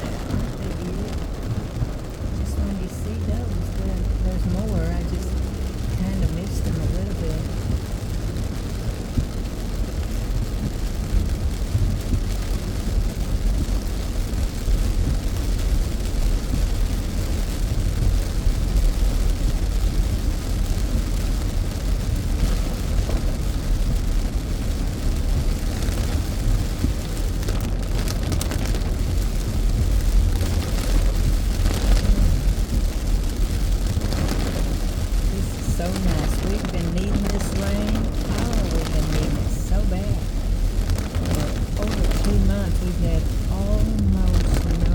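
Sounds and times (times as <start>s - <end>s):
rain: 0.0s - 44.9s
road and engine rumble: 0.0s - 44.9s.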